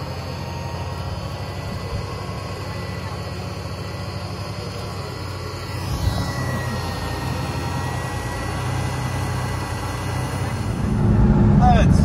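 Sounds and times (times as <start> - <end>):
car engine running low hum: 0.0 - 12.0.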